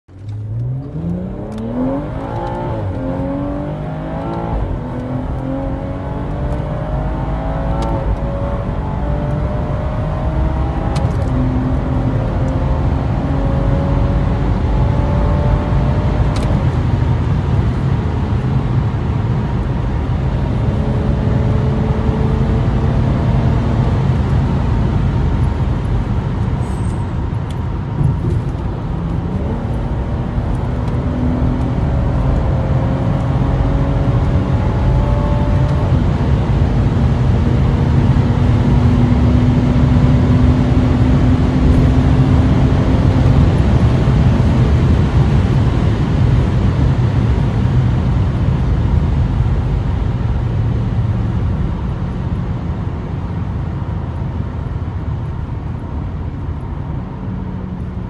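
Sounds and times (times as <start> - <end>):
car engine accelerating: 0.1 - 58.0
road rumble: 0.1 - 58.0.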